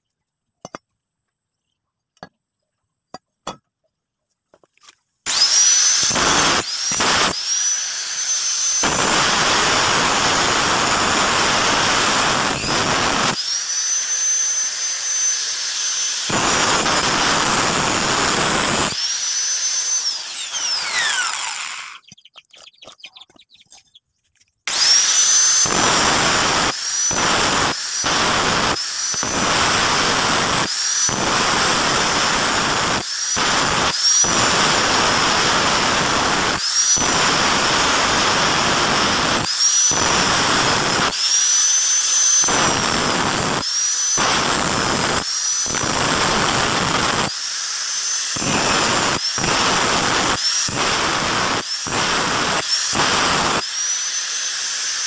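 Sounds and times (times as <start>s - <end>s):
angle grinder grinding steel: 4.5s - 55.0s.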